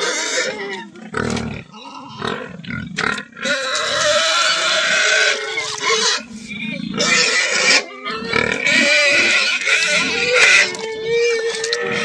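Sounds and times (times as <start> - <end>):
pigs grunting and squealing: 0.0 - 12.0.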